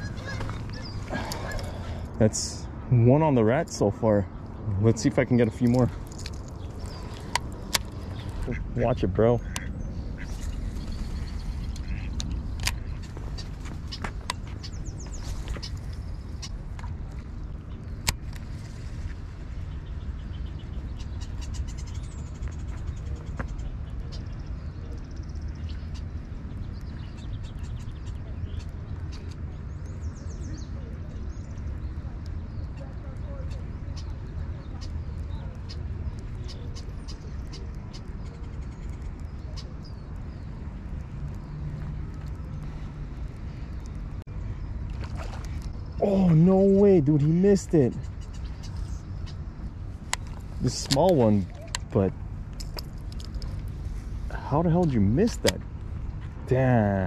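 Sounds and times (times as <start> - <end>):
small birds chirping: 0.0 - 57.0
wind rumbling on microphone: 0.0 - 57.0.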